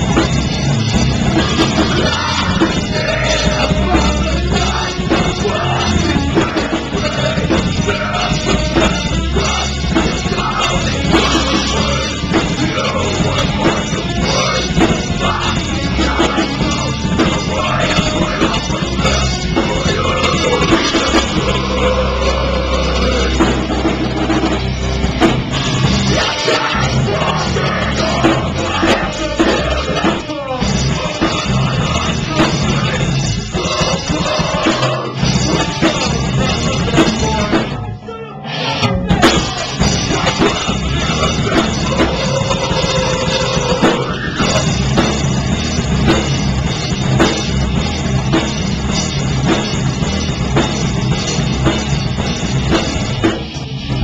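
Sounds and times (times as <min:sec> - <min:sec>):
drum kit: 0:00.0 - 0:38.0, 0:38.6 - 0:54.0
electric guitars: 0:00.0 - 0:54.0.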